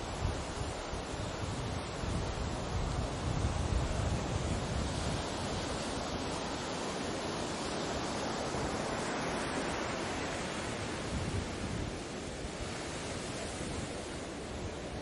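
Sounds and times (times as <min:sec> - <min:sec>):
ocean waves on shore: 0:00.0 - 0:15.0.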